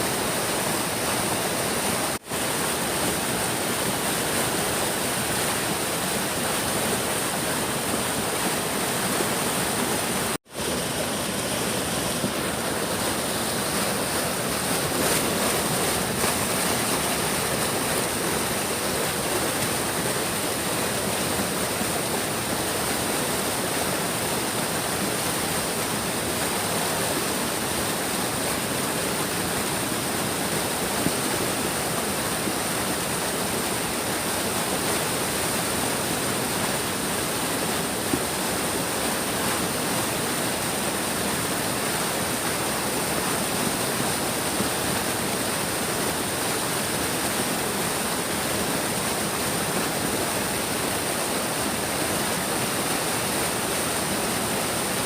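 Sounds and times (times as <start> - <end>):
stream rushing: 0.0 - 55.0.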